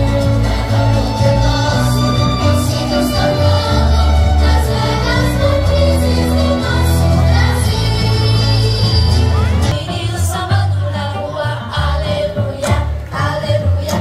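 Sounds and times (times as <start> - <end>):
instrumental accompaniment: 0.0 - 13.4
choir singing: 0.0 - 14.0
sustained bass notes: 0.0 - 14.0.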